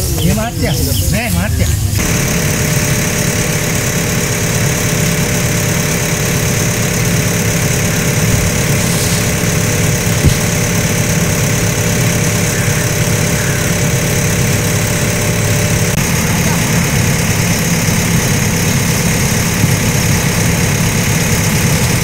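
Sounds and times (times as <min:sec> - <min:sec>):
motor engine idling: 0:00.0 - 0:22.0.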